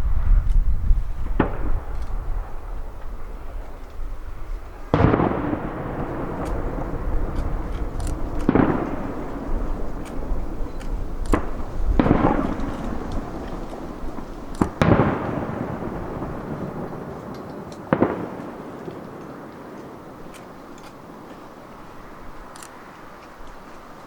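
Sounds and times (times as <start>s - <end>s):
firework shells booming: 0.0s - 22.2s.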